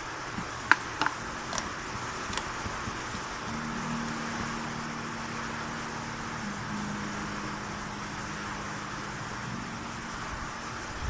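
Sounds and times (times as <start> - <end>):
background hiss: 0.0 - 11.0
constant low hum: 0.0 - 11.0.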